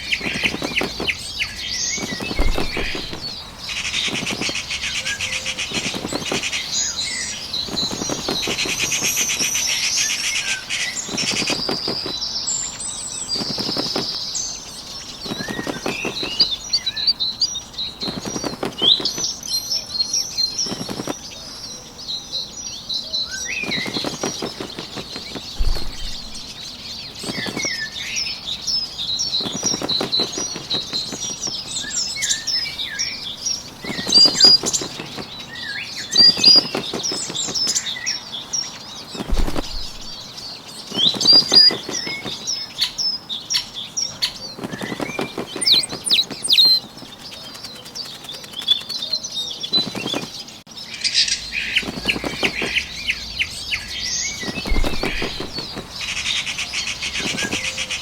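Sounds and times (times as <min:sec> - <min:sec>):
bird wings flapping: 0:00.0 - 0:21.4, 0:23.3 - 0:50.6, 0:51.5 - 0:58.0
birds chirping: 0:00.0 - 0:58.0.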